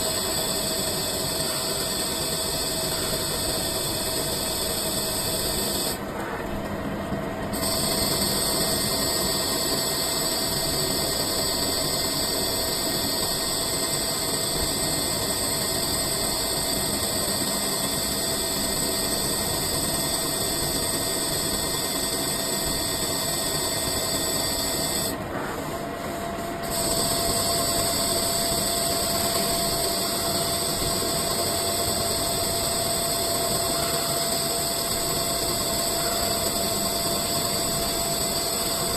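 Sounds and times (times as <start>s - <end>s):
lathe machine noise: 0.0s - 38.9s
steady high whine: 0.0s - 38.9s.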